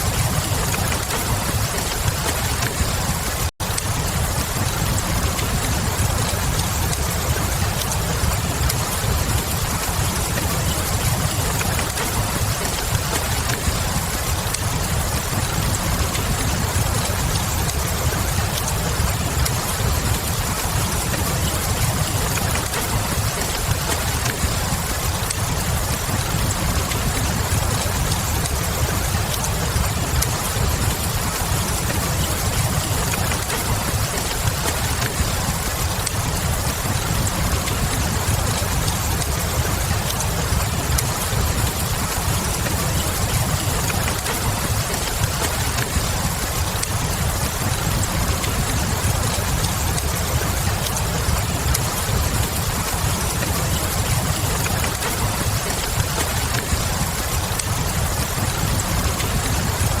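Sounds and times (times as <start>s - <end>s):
burning wood crackling: 0.0s - 60.0s
steady rain hiss: 0.0s - 60.0s.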